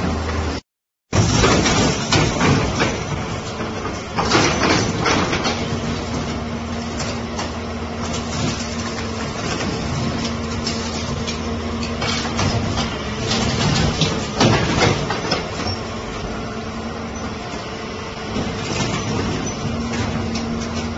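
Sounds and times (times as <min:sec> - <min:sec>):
excavator diesel engine: 0:00.0 - 0:20.9
metal crunching and clanking: 0:01.2 - 0:16.4, 0:18.2 - 0:20.9.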